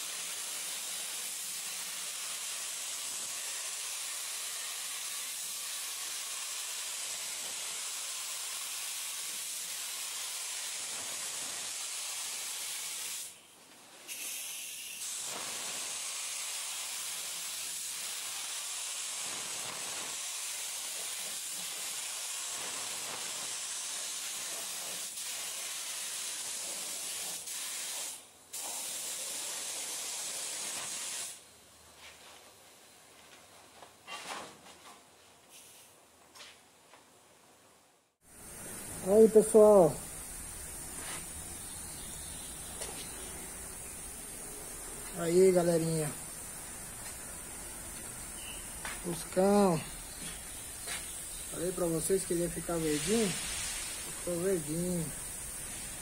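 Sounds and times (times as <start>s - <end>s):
paint spray gun hissing: 0.0s - 13.4s, 14.1s - 31.4s, 38.2s - 56.0s.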